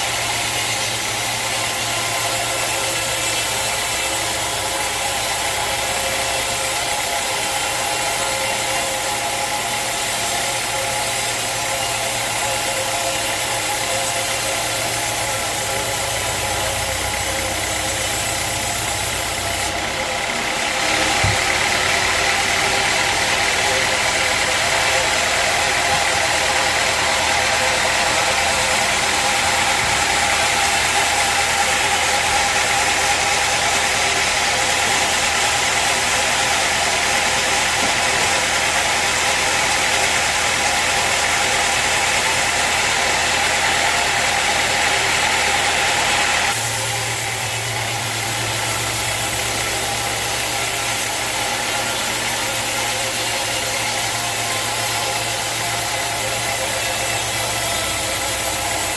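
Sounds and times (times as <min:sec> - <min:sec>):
sawmill machinery hissing: 0:00.0 - 0:58.9
low machine hum: 0:09.0 - 0:58.9.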